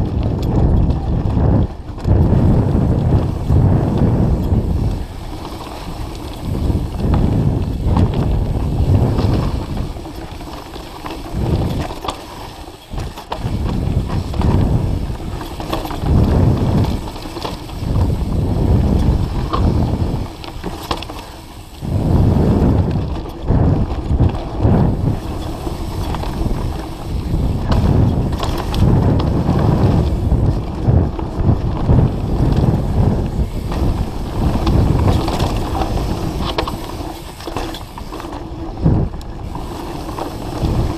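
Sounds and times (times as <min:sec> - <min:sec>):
bike rattling over bumps: 0:00.0 - 0:40.9
tyre roar on dirt: 0:00.0 - 0:40.9
wind buffeting microphone: 0:00.0 - 0:40.9.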